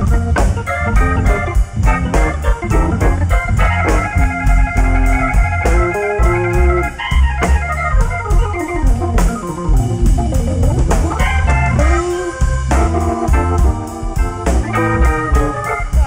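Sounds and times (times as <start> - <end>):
drums steady beat: 0.0 - 16.0
low bass line: 0.0 - 16.0
organ playing quick runs: 0.0 - 16.0.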